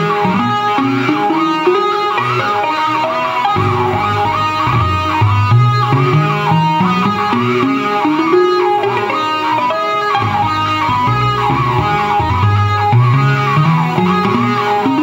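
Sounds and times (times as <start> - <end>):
bass line: 0.0 - 2.6, 3.4 - 9.3, 10.0 - 15.0
plucked guitar-like melody: 0.0 - 15.0.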